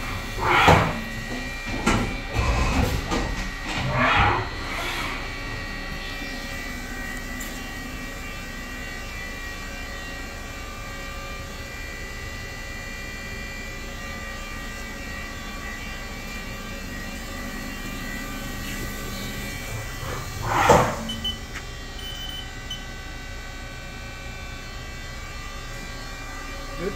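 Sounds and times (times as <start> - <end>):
machining center whining: 0.0 - 26.9.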